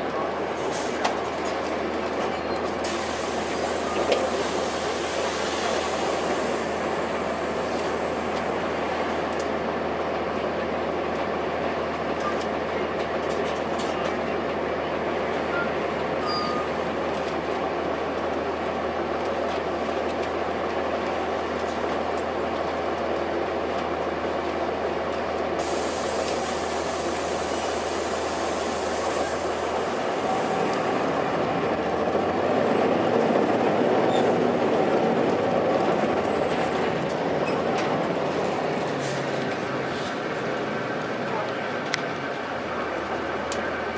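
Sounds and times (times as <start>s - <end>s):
bus engine and road noise: 0.0s - 43.9s.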